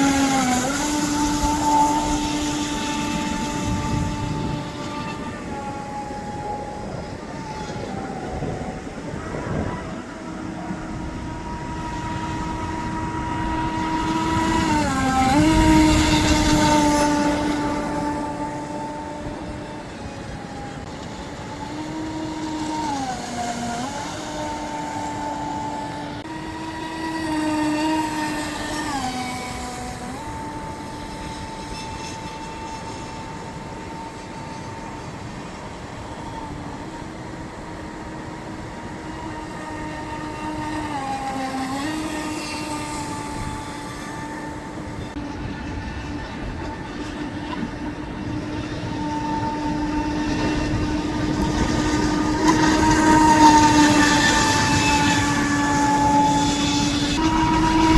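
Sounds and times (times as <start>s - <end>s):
model boat electric motor whining: 0.0s - 57.9s.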